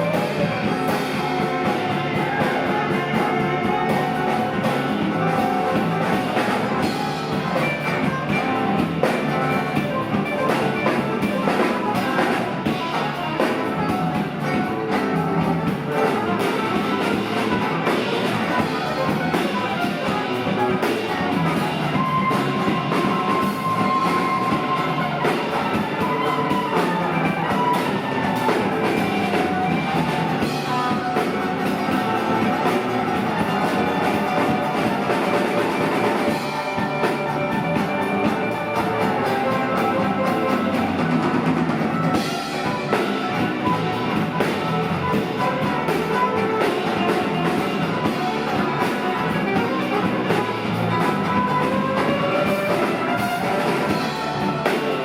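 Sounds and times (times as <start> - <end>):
bending lead guitar notes: 0.0 - 55.0
rock band playing: 0.0 - 55.0.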